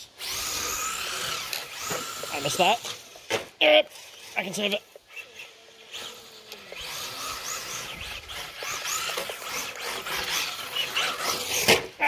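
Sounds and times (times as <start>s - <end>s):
electric motor whining: 0.0s - 3.3s, 3.9s - 12.0s.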